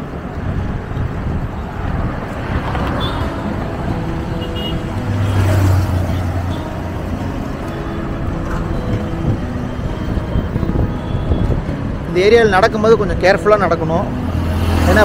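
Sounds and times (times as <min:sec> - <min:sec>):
vehicle engine hum passing close: 0:00.0 - 0:12.1, 0:13.6 - 0:15.0
rush of passing vehicles: 0:00.0 - 0:15.0.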